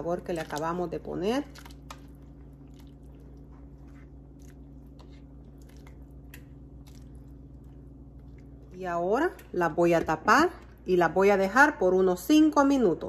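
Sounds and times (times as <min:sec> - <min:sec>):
wet squishes of stirring: 0:00.0 - 0:11.0
low hum: 0:00.0 - 0:13.0.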